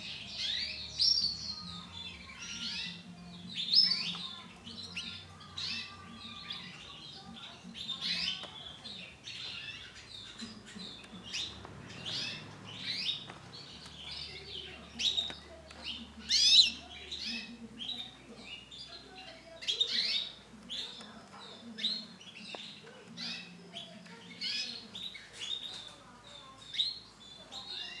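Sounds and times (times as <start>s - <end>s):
canary chirping: 0.0s - 28.0s.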